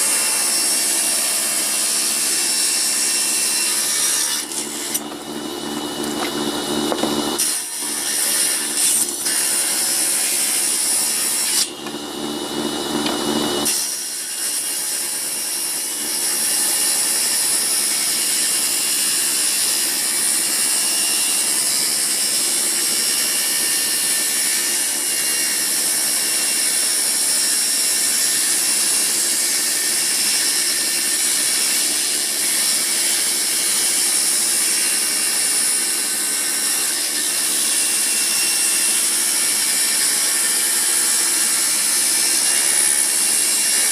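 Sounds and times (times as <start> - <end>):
table saw whining: 0.0 - 43.9.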